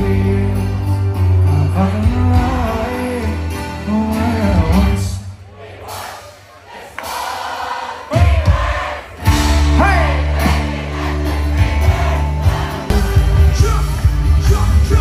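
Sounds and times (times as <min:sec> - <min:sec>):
folk-rock band playing: 0:00.0 - 0:06.3, 0:07.1 - 0:15.0.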